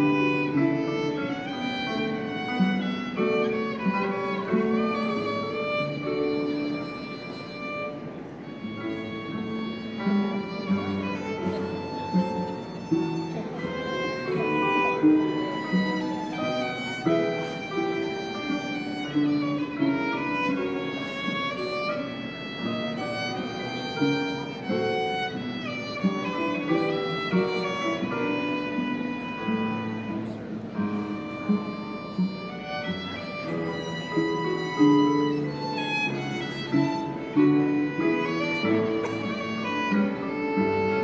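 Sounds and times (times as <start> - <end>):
cello: 0.0 - 41.0
violin melody: 0.0 - 41.0.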